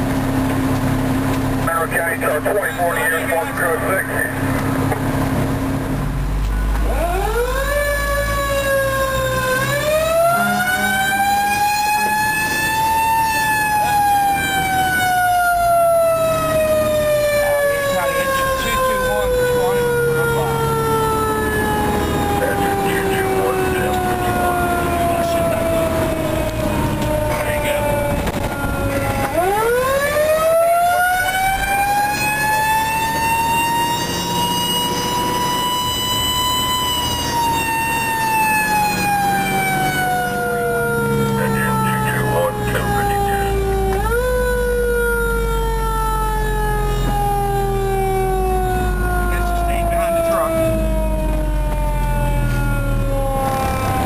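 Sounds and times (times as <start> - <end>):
fire engine siren wailing: 0.0 - 54.0
truck engine: 0.0 - 54.0.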